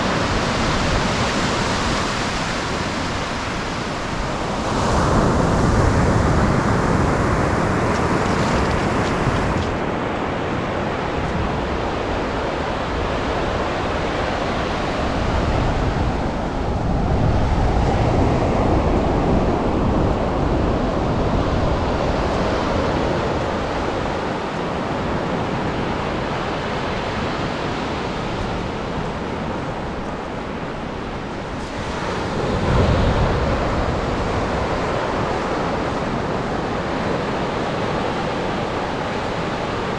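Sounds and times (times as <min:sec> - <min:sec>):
surf breaking on shore: 0:00.0 - 0:13.8, 0:17.9 - 0:39.9
wind rumbling on microphone: 0:00.0 - 0:39.9.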